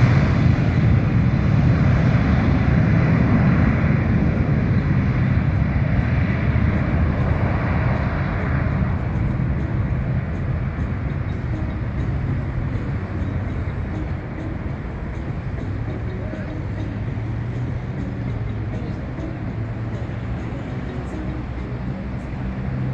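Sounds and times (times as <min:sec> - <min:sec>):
jet engines rumbling: 0:00.0 - 0:22.9.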